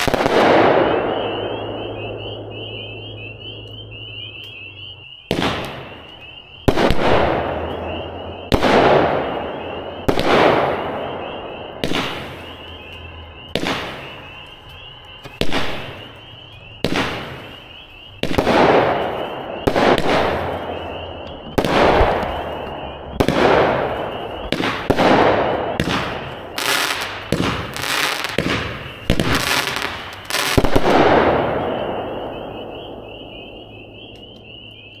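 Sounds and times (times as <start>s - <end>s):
fireworks launches and bursts: 0.0s - 3.4s, 5.3s - 34.2s.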